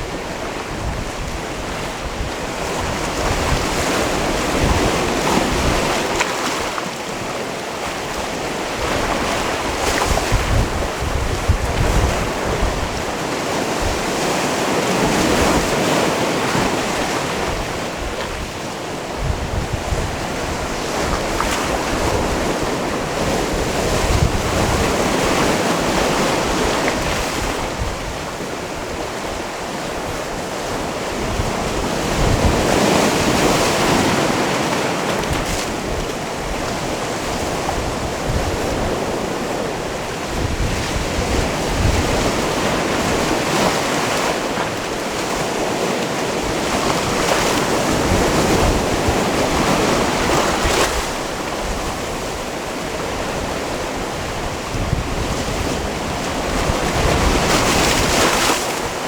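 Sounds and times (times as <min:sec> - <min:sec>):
waves on rocky shore: 0:00.0 - 0:59.0
wind buffeting microphone: 0:00.0 - 0:59.0.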